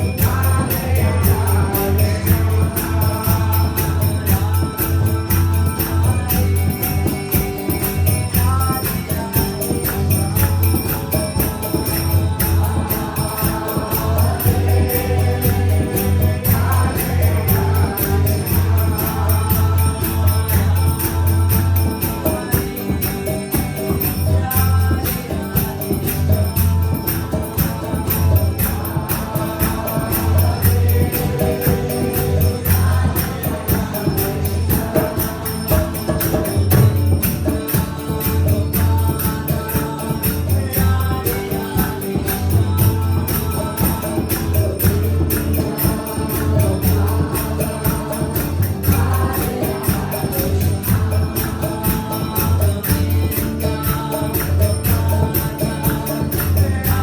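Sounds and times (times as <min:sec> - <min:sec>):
voices chanting: 0:00.0 - 0:36.7, 0:37.4 - 0:57.0
jingling percussion: 0:00.0 - 0:57.0.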